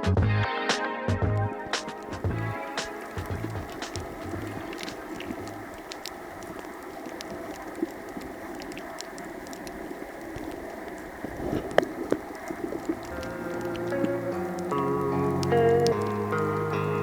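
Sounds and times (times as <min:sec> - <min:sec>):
crackling clicks: 0:01.5 - 0:17.0
underwater rushing hiss: 0:01.7 - 0:17.0.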